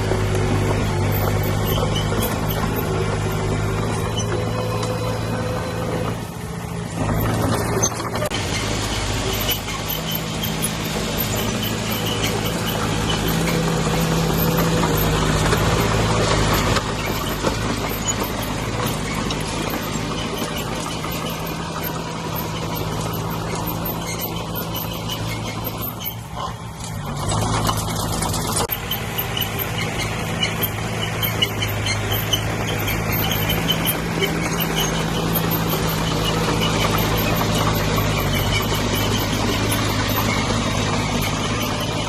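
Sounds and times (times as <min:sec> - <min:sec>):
diesel earthmoving machinery running: 0:00.0 - 0:42.0.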